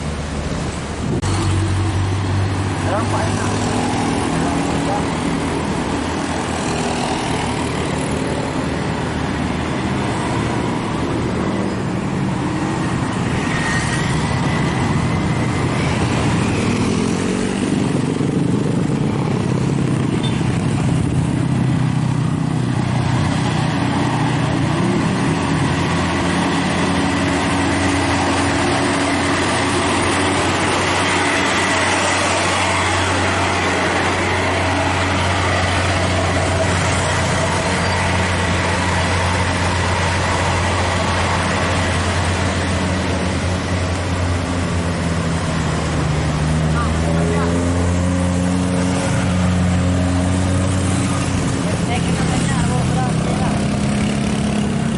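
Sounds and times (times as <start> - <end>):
truck engine labouring: 0.0 - 54.9.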